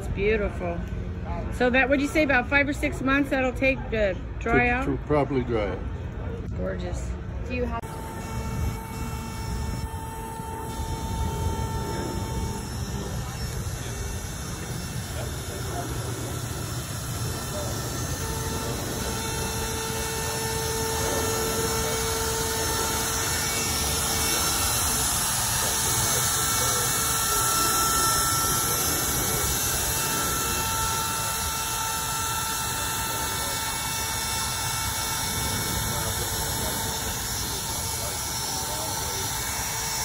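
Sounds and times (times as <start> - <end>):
wood router cutting wood: 7.8 - 40.0.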